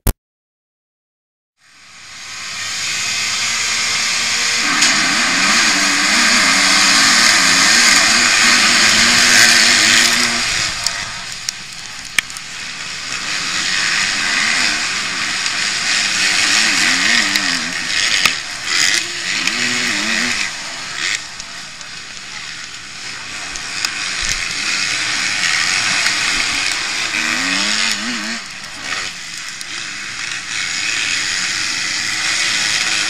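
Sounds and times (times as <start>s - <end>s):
heavy rushing noise: 2.2s - 30.1s
motocross engine revving: 2.3s - 33.0s.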